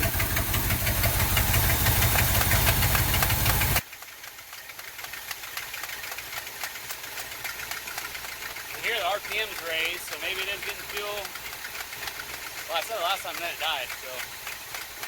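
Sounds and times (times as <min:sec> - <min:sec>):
car engine idling rough: 0:00.0 - 0:15.0.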